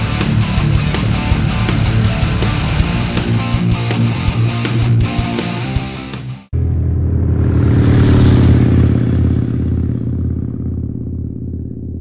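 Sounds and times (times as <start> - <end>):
motorcycle engine: 0.0 - 5.8, 6.4 - 12.0.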